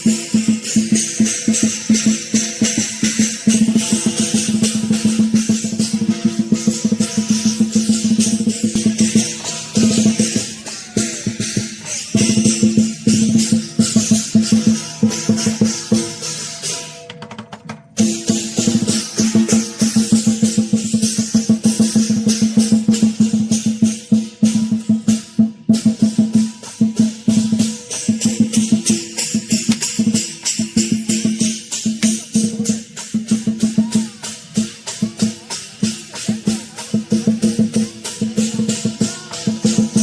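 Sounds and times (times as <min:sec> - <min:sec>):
cymbals crashing: 0:00.0 - 0:17.0, 0:18.0 - 0:40.0
drum beat: 0:00.0 - 0:40.0.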